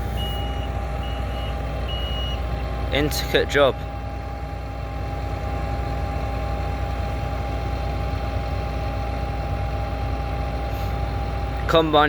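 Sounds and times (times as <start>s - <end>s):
heavy machinery engine droning: 0.0s - 12.0s.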